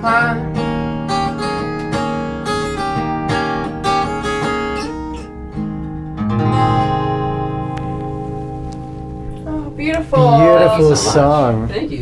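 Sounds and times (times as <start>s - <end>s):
acoustic guitar picked notes: 0.0s - 12.0s
strummed guitar chord ringing: 0.0s - 12.0s.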